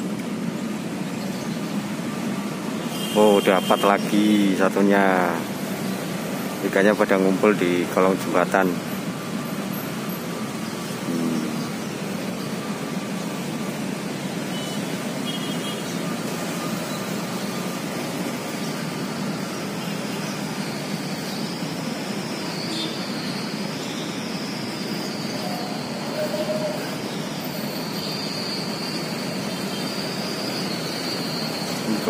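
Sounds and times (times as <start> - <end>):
road traffic: 0.0 - 32.0
faint high wavering whine: 0.2 - 32.0.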